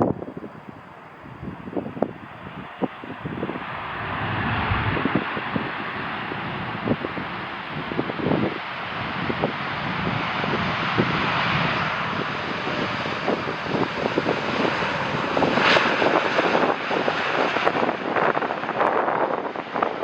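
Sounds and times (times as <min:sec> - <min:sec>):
jet airliner engine roar: 0:00.0 - 0:20.0.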